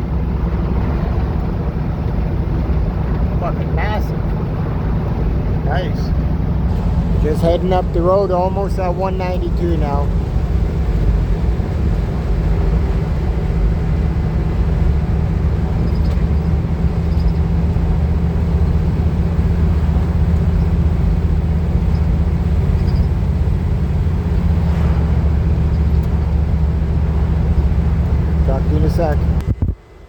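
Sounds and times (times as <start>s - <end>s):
van engine and road drone: 0.0s - 30.0s.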